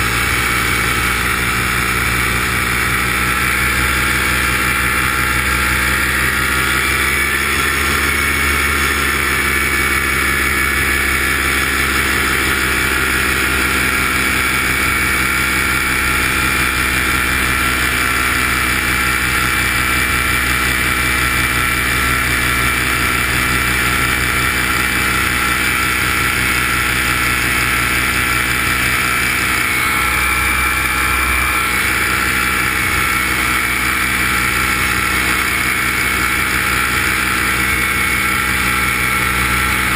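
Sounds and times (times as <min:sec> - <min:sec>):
aircraft propeller drone: 0:00.0 - 0:39.9.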